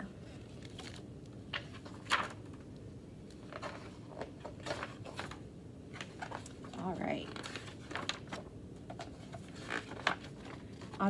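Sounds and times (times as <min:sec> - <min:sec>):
faint room noise: 0:00.0 - 0:11.0
book pages rustling and tapping: 0:00.5 - 0:02.7, 0:03.4 - 0:11.0.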